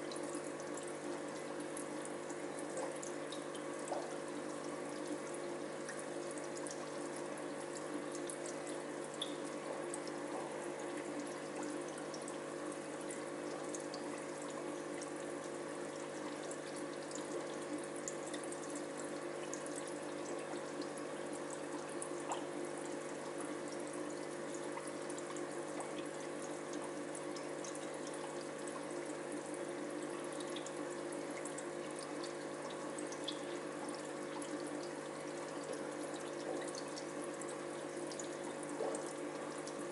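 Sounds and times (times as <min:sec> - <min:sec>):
aquarium filter water trickling: 0:00.0 - 0:39.9
low steady hum: 0:00.0 - 0:39.9.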